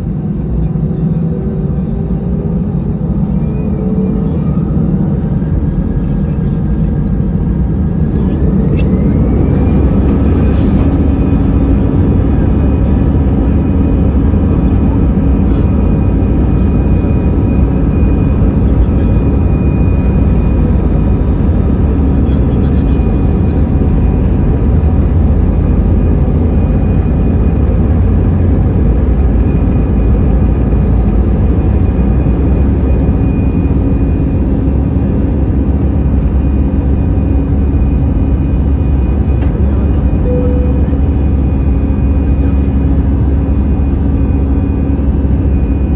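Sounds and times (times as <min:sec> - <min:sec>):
aircraft cabin engine roar: 0:00.0 - 0:45.9
high engine whine: 0:00.0 - 0:45.9.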